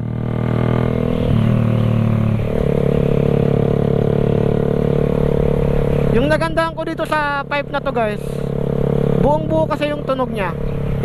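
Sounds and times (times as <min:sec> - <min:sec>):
motorcycle engine at speed: 0:00.0 - 0:11.0.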